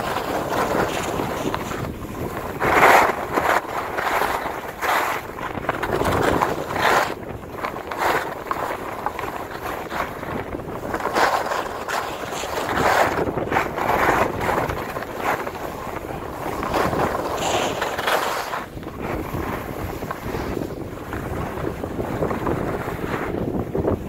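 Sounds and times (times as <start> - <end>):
skis scraping on snow: 0.0 - 24.0
wind rushing over microphone: 0.0 - 24.0.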